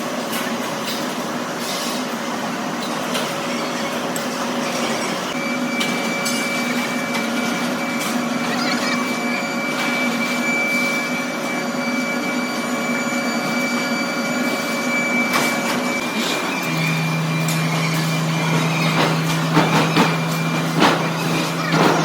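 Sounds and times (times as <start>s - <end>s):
workshop machinery humming: 0.0s - 22.0s.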